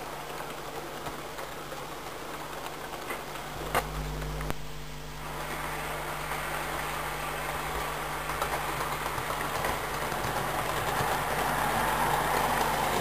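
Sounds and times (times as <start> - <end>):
model train running on track: 0.0 - 3.8, 5.2 - 13.0.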